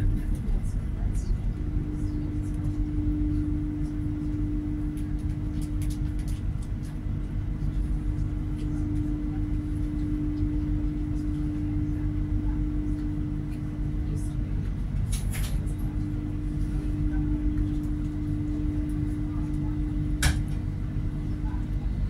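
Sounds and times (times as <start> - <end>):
steady hum: 0.0 - 22.0
train cabin rumble: 0.0 - 22.0.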